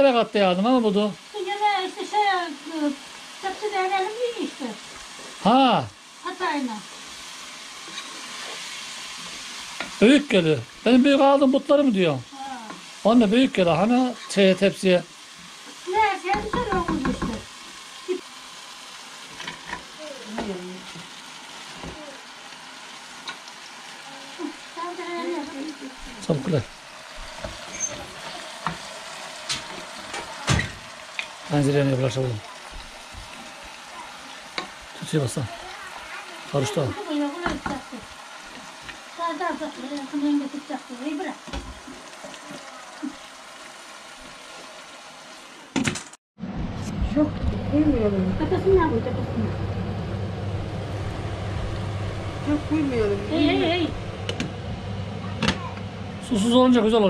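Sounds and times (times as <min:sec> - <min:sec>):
food sizzling in a frying pan: 0:00.0 - 0:46.0, 0:46.9 - 0:57.0.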